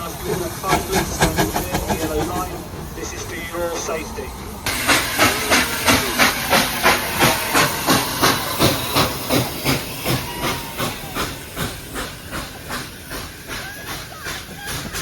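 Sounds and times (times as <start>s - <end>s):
steam hissing: 0.0s - 15.0s
steam locomotive chuffing: 0.0s - 15.0s.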